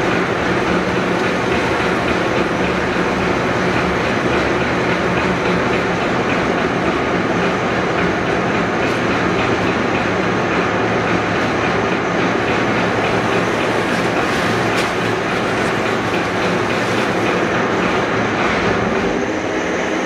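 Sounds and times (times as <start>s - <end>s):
caisson rumbling on rails: 0.0s - 20.0s.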